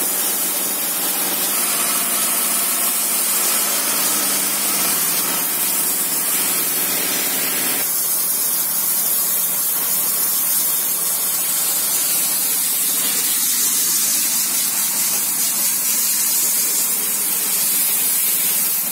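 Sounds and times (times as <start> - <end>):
air spray gun hissing: 0.0 - 18.9.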